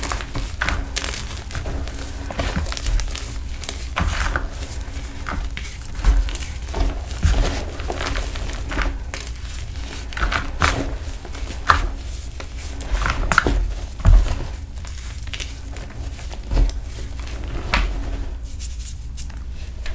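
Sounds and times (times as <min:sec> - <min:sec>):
fingers crumbling chalk: 0:00.0 - 0:19.9.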